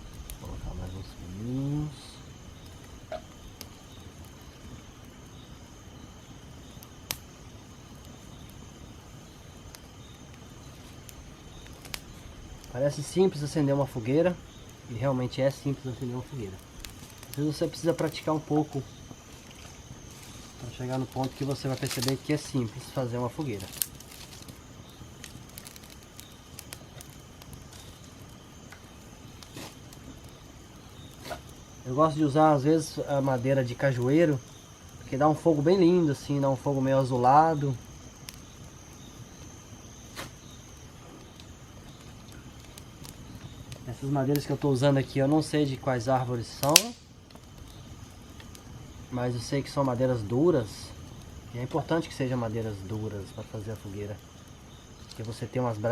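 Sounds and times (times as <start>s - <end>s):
campfire crackling: 0.0s - 55.9s
insects trilling: 0.0s - 55.9s
low steady fire noise: 0.0s - 55.9s.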